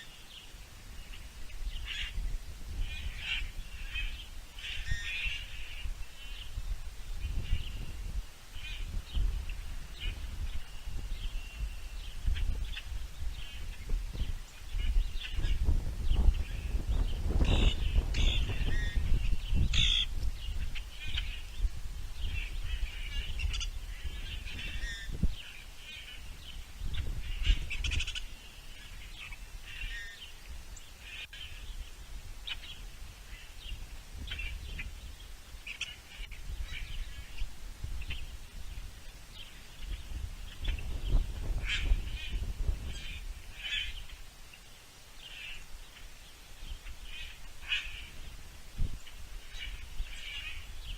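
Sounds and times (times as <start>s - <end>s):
birds chirping and calling: 0.0s - 50.9s.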